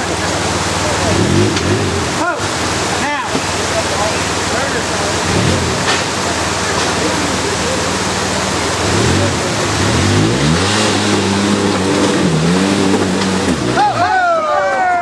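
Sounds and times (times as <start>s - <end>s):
engine revving: 0.0s - 14.3s.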